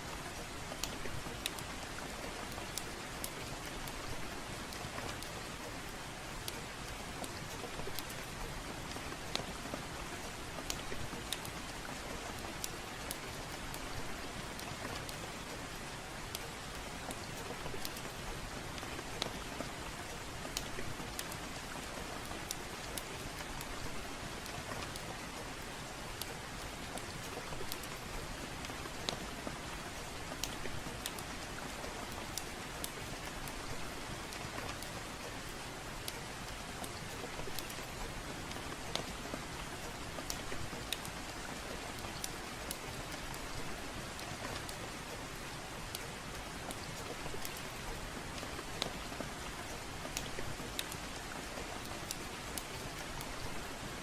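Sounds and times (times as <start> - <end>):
steady rainfall: 0.0 - 54.0
wood fire crackling: 0.2 - 54.0.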